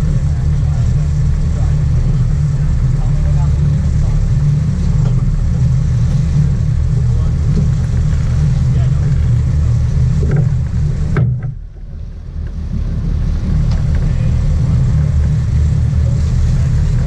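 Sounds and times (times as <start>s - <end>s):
boat engine rumbling: 0.0s - 17.0s
water and wind hiss: 0.0s - 17.0s.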